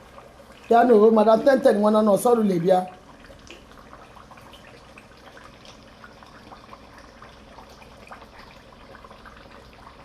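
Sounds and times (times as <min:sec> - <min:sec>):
pot of food bubbling: 0:00.0 - 0:10.0.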